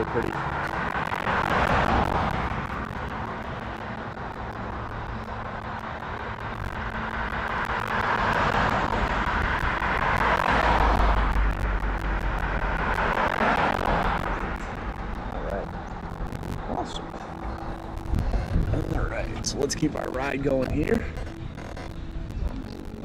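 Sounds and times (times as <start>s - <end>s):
low vehicle rumble: 0.0s - 23.0s
road traffic passing: 0.0s - 23.0s.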